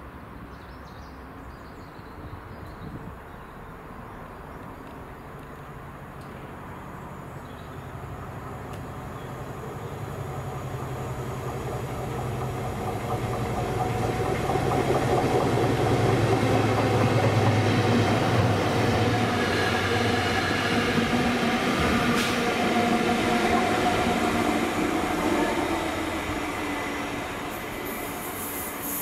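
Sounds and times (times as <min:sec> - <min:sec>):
diesel locomotives passing: 0:03.6 - 0:29.0.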